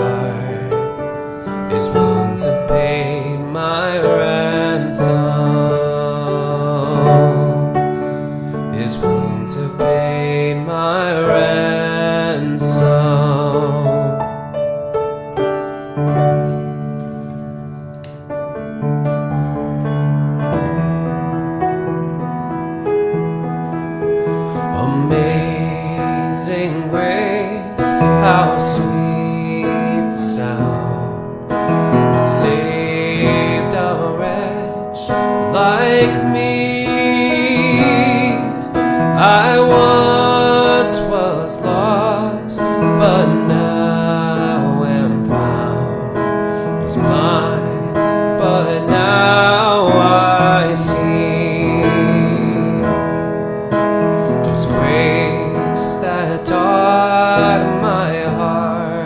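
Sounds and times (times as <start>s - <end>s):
person singing: 0.0s - 17.9s, 24.0s - 59.0s
worship song on piano: 0.0s - 59.0s.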